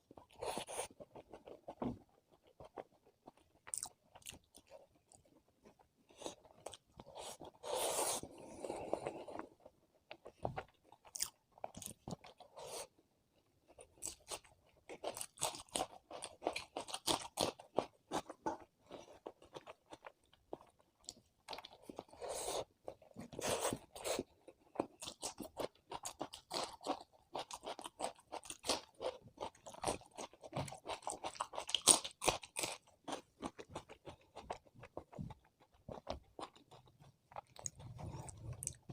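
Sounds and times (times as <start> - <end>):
person chewing and crunching food: 0.0 - 38.9.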